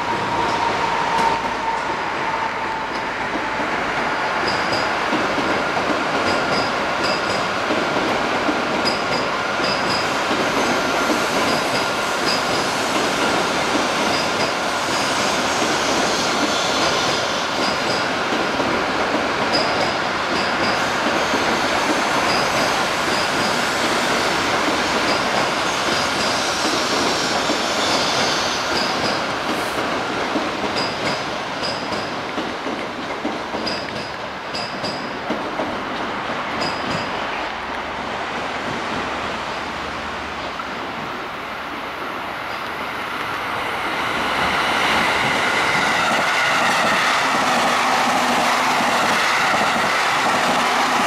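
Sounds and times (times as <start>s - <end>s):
train wheels rolling on rail: 0.0s - 51.0s.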